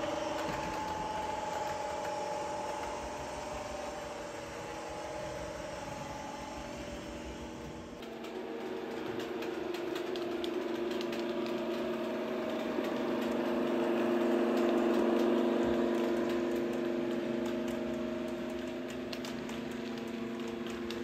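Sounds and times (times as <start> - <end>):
locomotive engine drone from speaker: 0.0 - 21.0.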